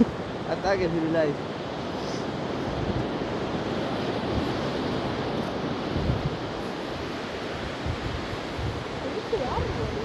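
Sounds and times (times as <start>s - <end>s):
ocean surf washing on beach: 0.0s - 10.0s
wind buffeting microphone: 0.0s - 10.0s.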